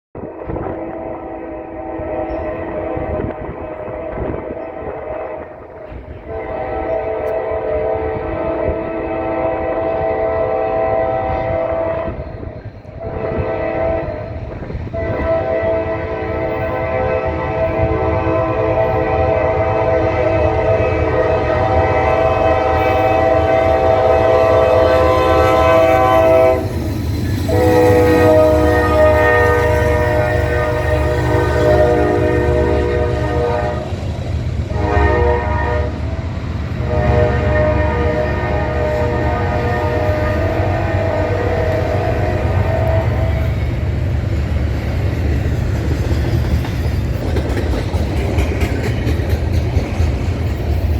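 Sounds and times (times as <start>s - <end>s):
low rumble of locomotives: 0.1s - 50.9s
locomotive air horn blasts: 0.2s - 26.8s, 27.5s - 34.0s, 34.7s - 43.8s.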